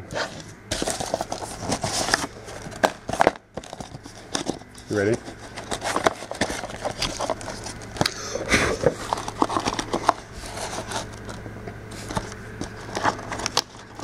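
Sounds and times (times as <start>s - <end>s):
packaging rustling and crinkling: 0.1s - 8.0s, 8.7s - 14.0s.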